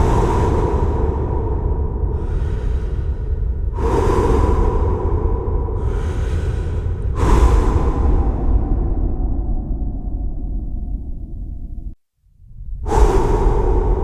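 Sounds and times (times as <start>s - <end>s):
man breathing with echo: 0.0s - 12.0s, 12.8s - 14.0s
steady low rumble: 0.0s - 14.0s.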